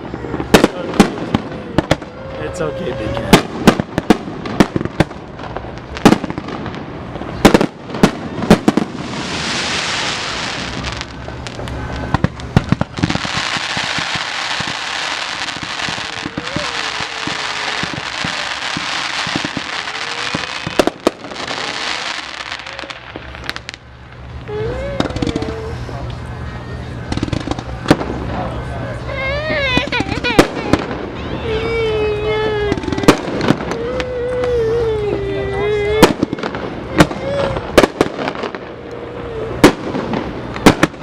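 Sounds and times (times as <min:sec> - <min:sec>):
fireworks bangs: 0:00.0 - 0:41.0
fireworks hissing and crackling: 0:00.0 - 0:41.0.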